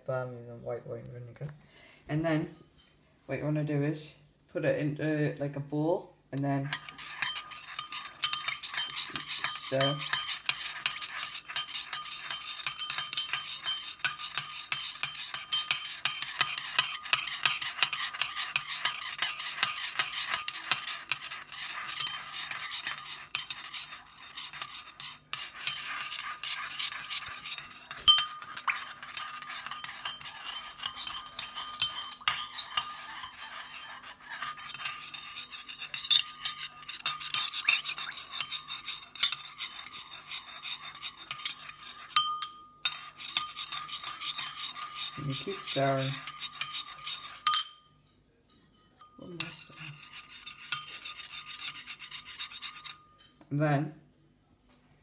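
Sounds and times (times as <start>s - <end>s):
metal spoon clinking in glass bowl: 6.4s - 53.4s.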